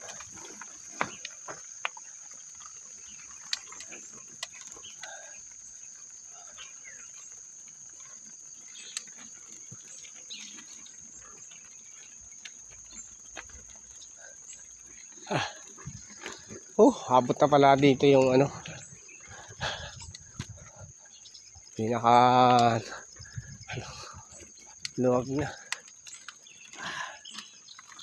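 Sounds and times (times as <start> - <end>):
faint clicks and ticks: 0.0 - 28.0
insects chirring: 0.0 - 28.0.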